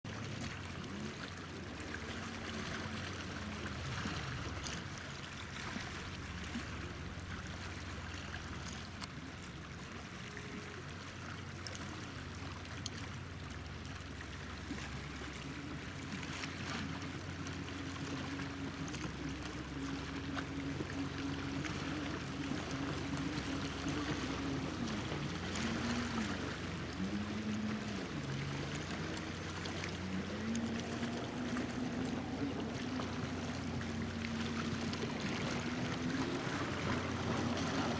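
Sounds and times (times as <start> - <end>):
water lapping among rocks: 0.0 - 37.9
low steady hum: 0.1 - 37.9.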